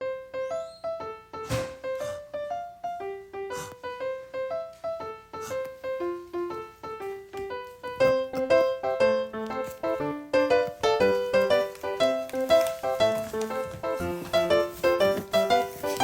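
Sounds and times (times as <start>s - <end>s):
gentle piano-like keyboard melody: 0.0s - 16.0s.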